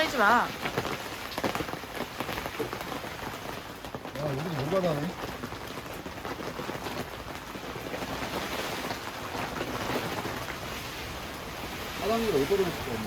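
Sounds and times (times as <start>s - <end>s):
gusting wind: 0.0s - 13.0s
heavy rain on a tent: 0.0s - 13.0s.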